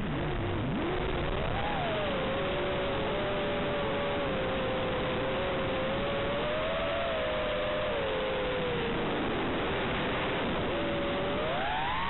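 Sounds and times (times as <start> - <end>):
quadcopter motors whining: 0.8 - 12.0.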